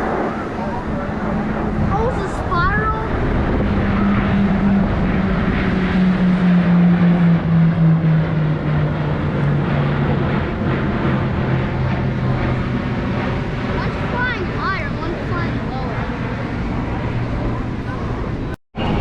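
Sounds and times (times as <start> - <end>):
airplanes flying overhead: 0.0 - 19.0.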